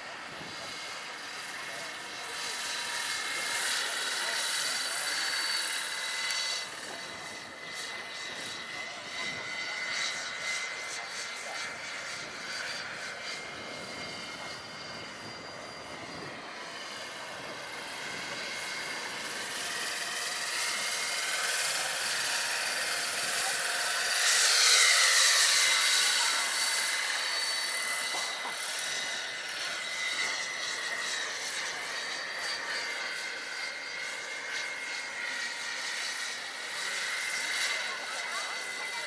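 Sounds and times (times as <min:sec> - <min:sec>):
electric motor whine: 0:00.0 - 0:39.0
helicopter rotors swishing: 0:00.0 - 0:39.0.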